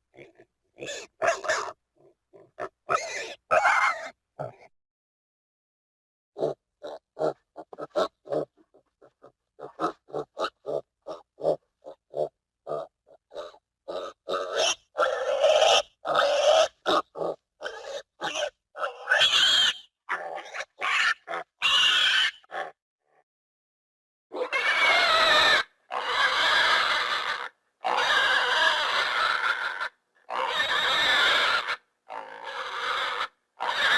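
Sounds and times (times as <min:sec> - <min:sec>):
pig grunting and squealing: 0:00.1 - 0:04.7, 0:06.4 - 0:22.8, 0:24.3 - 0:33.9.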